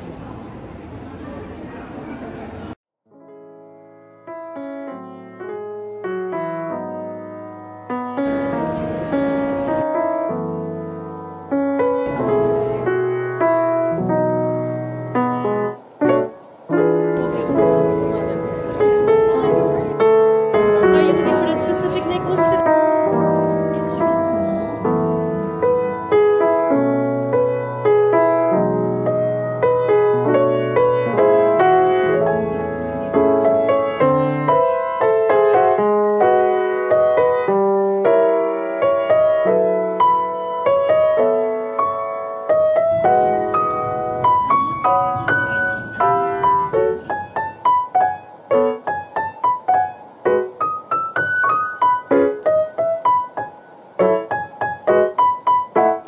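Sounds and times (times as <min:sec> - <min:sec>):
solo piano melody: 0:03.1 - 0:56.0.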